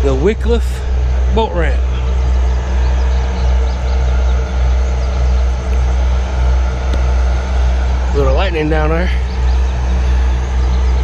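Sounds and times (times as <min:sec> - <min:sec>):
low engine hum: 0:00.0 - 0:11.0
wind buffeting microphone: 0:00.0 - 0:11.0.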